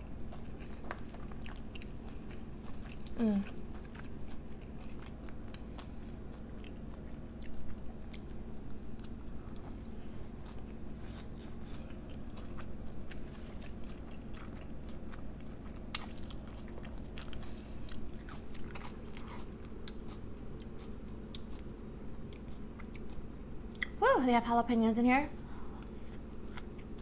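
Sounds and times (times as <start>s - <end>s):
close chewing with crunches: 0.0s - 24.0s, 25.6s - 27.0s.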